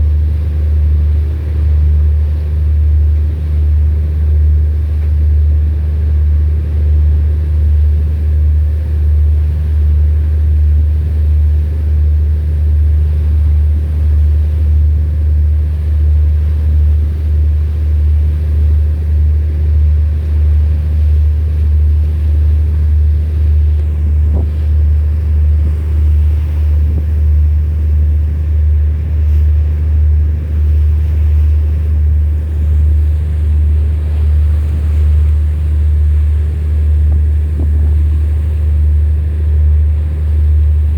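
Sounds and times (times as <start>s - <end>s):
ship engine rumble: 0.0s - 40.9s.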